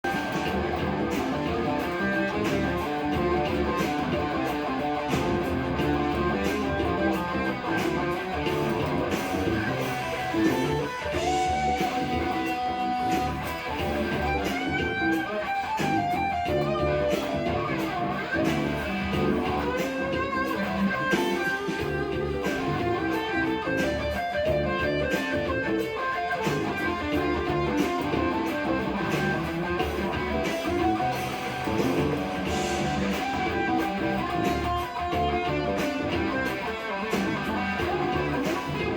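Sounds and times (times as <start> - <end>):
guitar-led music with steady beat: 0.0 - 38.9.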